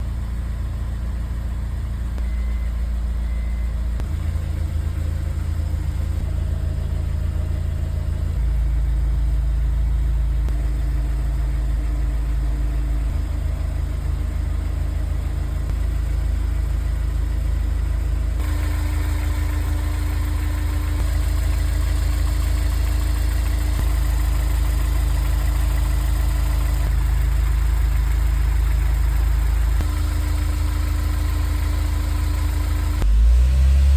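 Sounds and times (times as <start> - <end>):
car engine rumble: 0.0 - 33.9.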